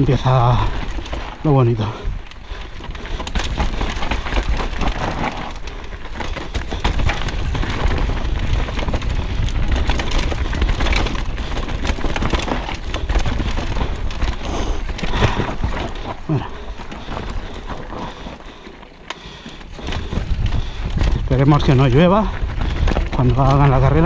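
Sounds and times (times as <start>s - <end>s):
bike rattling over rocks: 0.1s - 24.0s.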